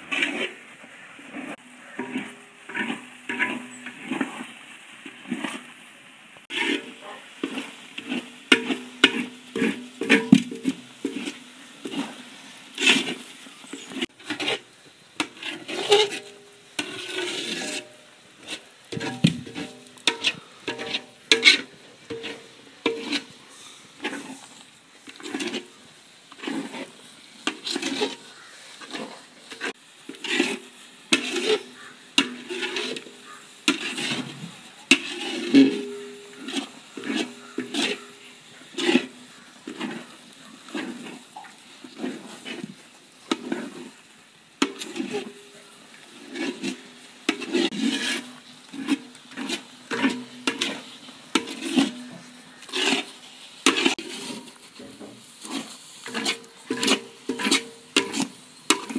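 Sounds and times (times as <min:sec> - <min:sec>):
metal ladle scraping a wok: 0:00.0 - 0:05.8, 0:06.4 - 0:58.9
faint sizzle: 0:00.0 - 0:58.9.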